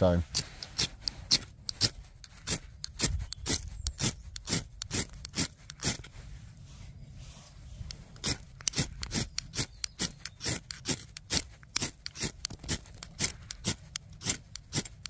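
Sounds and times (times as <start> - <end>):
striker rasping on ferro rod: 0.2 - 6.1, 7.8 - 15.0.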